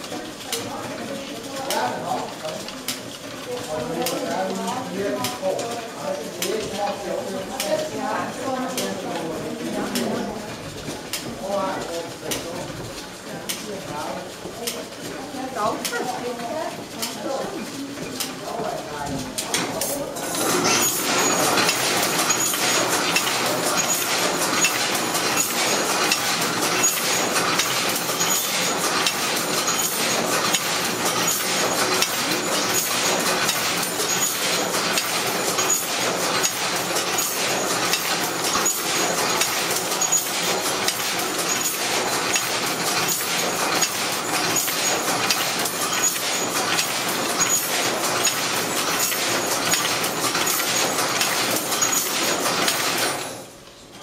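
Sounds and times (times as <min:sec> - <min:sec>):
loom mechanical clatter: 0:00.0 - 0:54.0.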